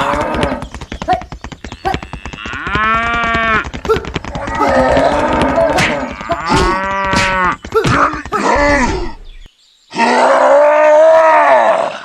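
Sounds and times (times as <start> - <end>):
drawn-out groaning and grunting calls: 0.0 - 12.0.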